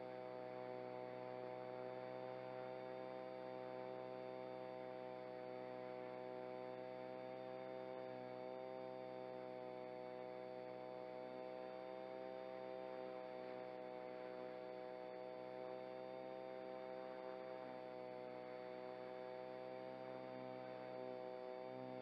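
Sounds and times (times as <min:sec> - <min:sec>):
micro helicopter motor whine: 0:00.0 - 0:22.0.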